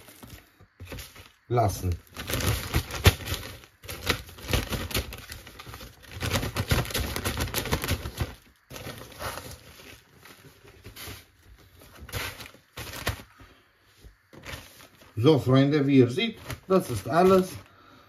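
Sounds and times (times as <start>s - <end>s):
plastic bags crinkling: 0.0s - 13.4s, 14.4s - 17.8s.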